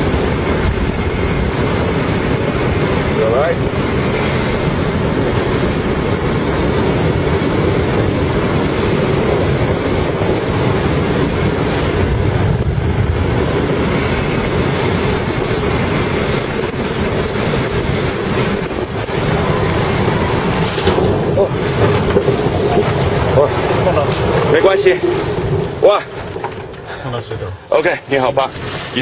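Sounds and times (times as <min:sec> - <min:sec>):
rushing air in aircraft cockpit: 0:00.0 - 0:29.0.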